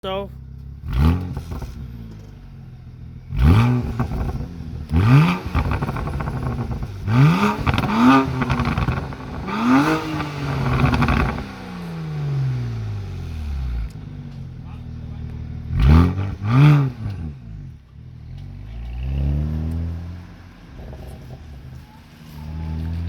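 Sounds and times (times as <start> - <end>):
exhaust crackling: 0.3 - 23.0
car engine revving: 0.5 - 23.0.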